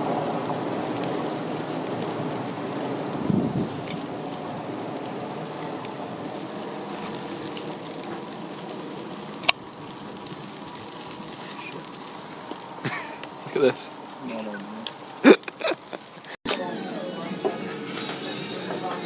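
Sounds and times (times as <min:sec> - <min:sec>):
meat sizzling on a grill: 0:00.0 - 0:16.4.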